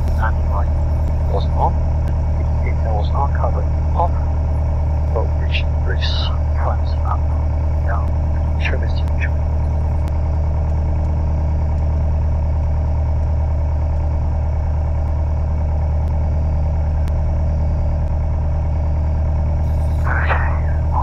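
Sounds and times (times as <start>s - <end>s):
aircraft piston engine running: 0.0s - 17.5s, 19.3s - 21.0s.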